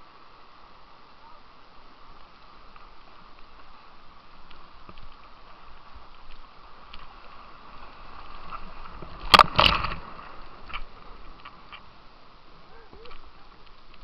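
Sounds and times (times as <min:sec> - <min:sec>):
rushing white water: 0:00.0 - 0:14.0
water splashing on camera: 0:02.2 - 0:14.0.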